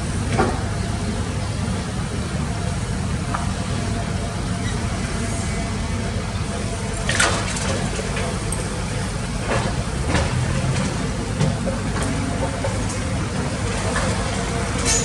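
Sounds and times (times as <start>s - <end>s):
excavator engine rumbling: 0.0s - 15.0s.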